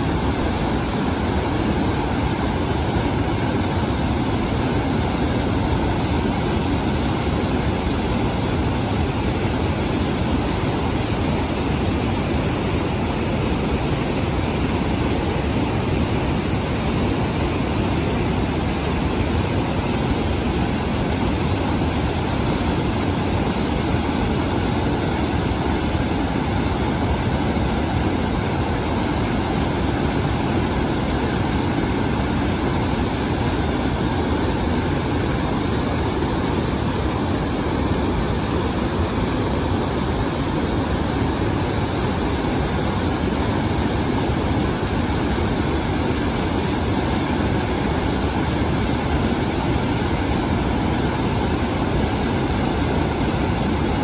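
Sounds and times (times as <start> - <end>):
rushing whitewater roar: 0.0 - 54.0.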